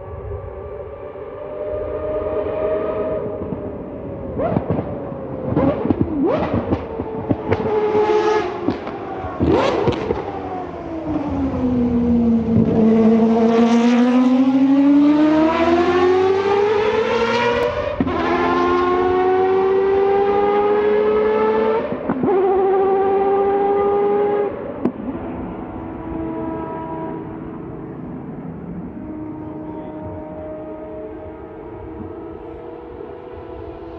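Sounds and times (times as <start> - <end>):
rotary engine revving: 4.3 - 33.9.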